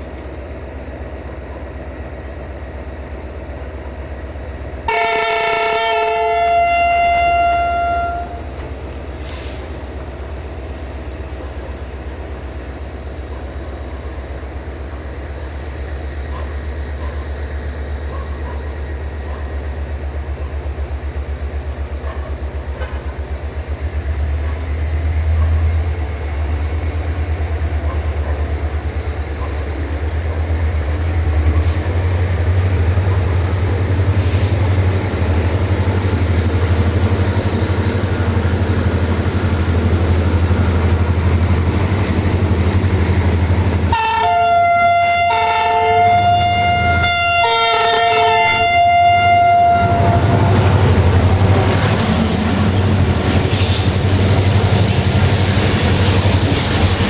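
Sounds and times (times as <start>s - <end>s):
diesel train engine throbbing: 0.0s - 57.0s.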